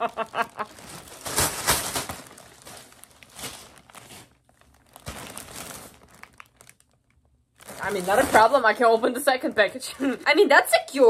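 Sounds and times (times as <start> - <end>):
plastic mailer bag crinkling: 0.1 - 9.8.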